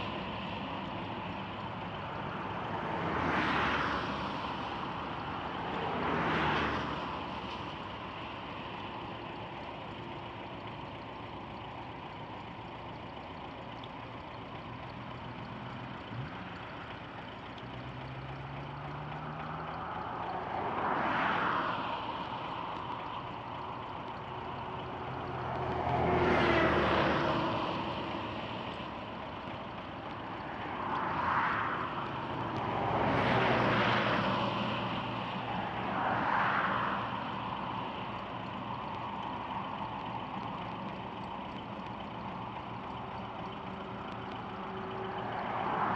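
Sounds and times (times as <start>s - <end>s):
vehicles passing: 0.0s - 45.9s.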